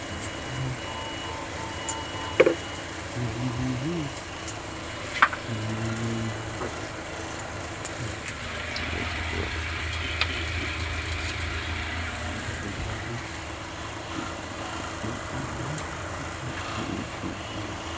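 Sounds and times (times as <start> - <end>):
electric grinder motor humming: 0.0 - 17.9.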